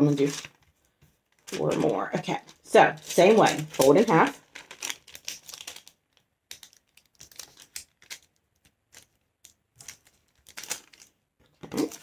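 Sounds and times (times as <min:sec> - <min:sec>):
paper crinkling and scraping: 0:00.0 - 0:12.0.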